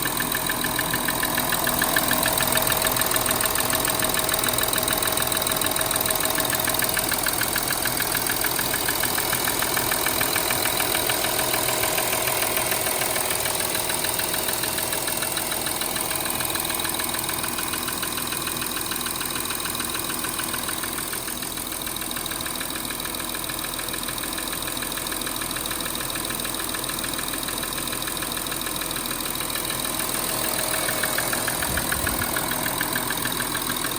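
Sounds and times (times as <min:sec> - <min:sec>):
diesel engine idling: 0:00.0 - 0:33.9
fast engine ticking: 0:00.0 - 0:33.9.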